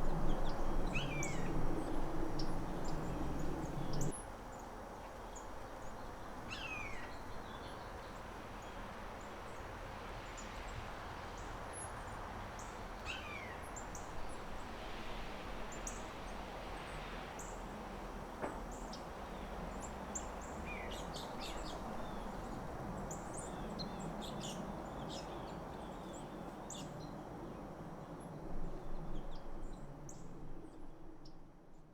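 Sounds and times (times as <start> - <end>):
outdoor background noise: 0.0 - 31.9.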